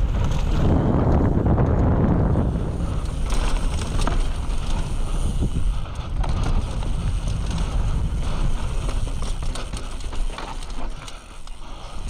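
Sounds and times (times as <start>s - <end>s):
bike rattles and clicks: 0.0s - 12.0s
bike tyre rumble on dirt: 0.0s - 12.0s
wind buffeting: 0.0s - 12.0s.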